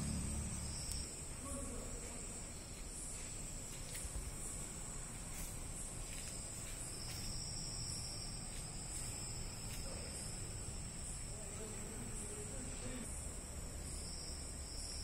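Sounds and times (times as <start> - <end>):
crickets trilling: 0.0 - 15.0
lower-pitched cricket trill: 0.0 - 15.0.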